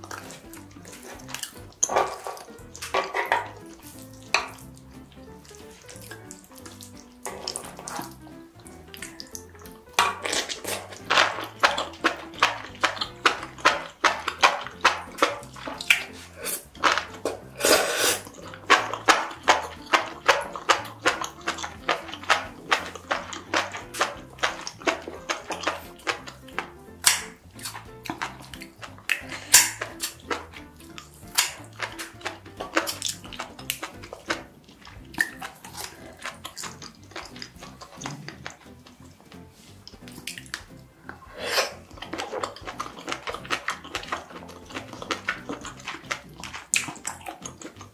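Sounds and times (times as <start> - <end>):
wet chewing and mouth smacks: 0.0 - 47.9.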